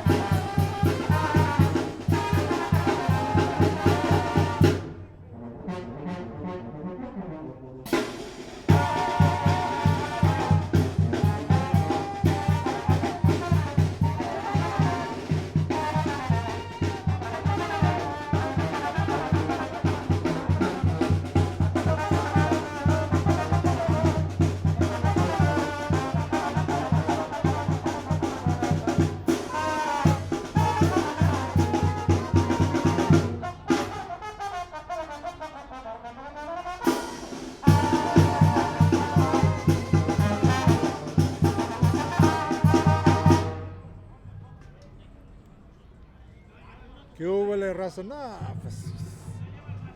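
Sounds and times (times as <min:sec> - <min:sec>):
trumpets and trombones: 0:00.0 - 0:44.2.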